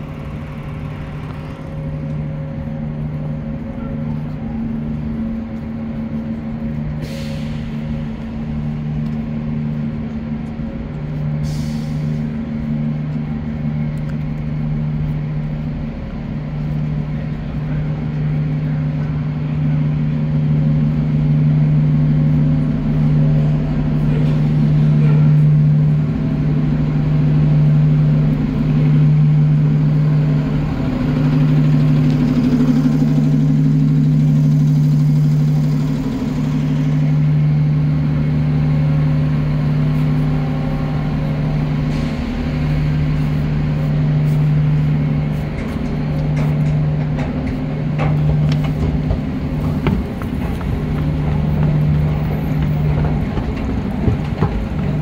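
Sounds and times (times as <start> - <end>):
buses idling: 0.0 - 55.0.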